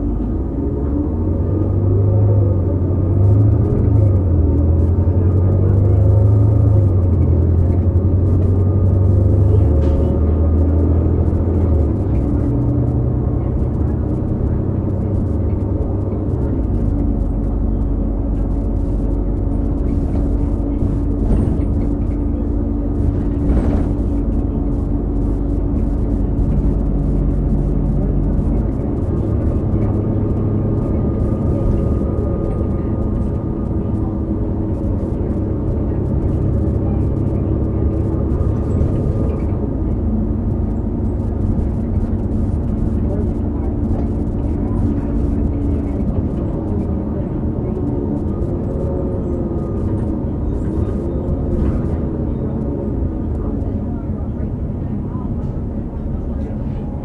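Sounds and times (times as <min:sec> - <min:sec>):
transmission whine: 0:00.0 - 0:54.3
bus diesel engine rumbling: 0:00.0 - 0:57.0.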